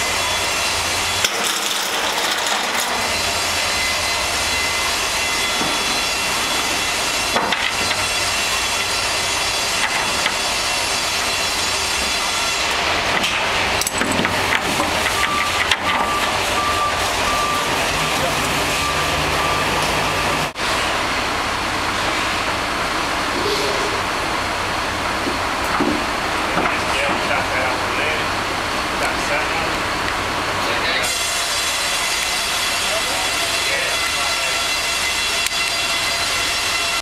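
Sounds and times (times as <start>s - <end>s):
machine noise: 0.0s - 37.0s.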